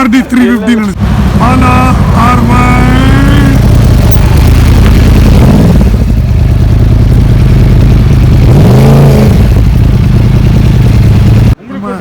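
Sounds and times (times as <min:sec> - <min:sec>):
motorcycle engine idling: 0:01.0 - 0:11.6.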